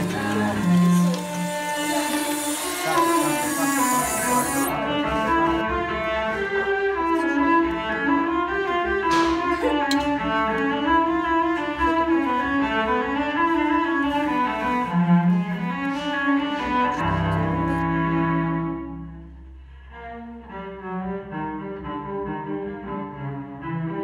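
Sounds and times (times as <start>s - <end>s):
bowed cello melody: 0.0s - 24.0s.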